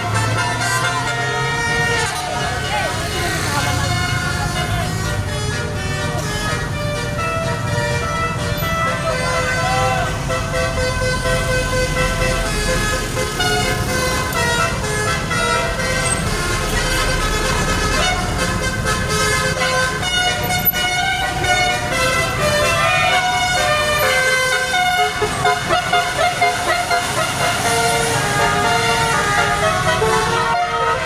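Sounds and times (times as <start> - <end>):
bus engine rumble: 0.0 - 31.0
tuned air horns tooting melody: 0.0 - 31.0.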